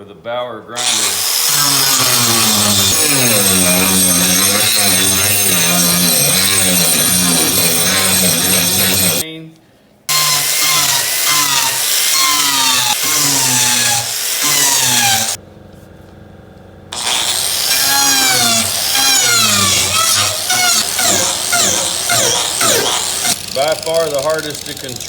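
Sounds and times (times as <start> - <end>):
angle grinder cutting wood: 0.8 - 9.2, 10.1 - 15.4, 16.9 - 25.0.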